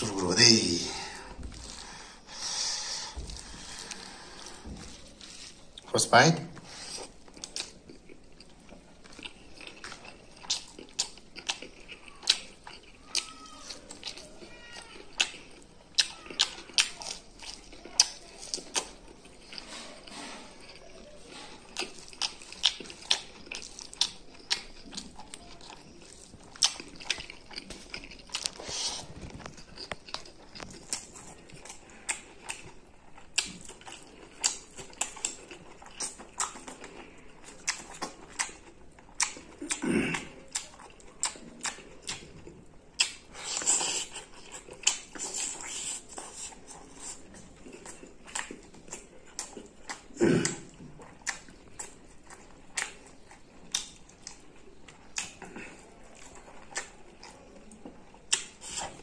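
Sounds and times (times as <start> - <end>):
man chewing food: 0.0 - 5.9, 6.5 - 59.0.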